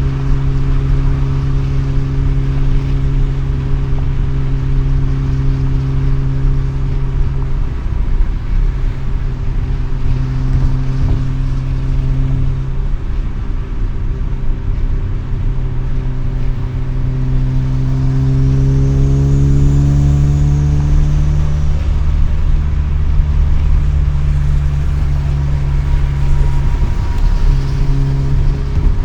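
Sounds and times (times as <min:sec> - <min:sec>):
rotary car engine droning: 0:00.0 - 0:29.0.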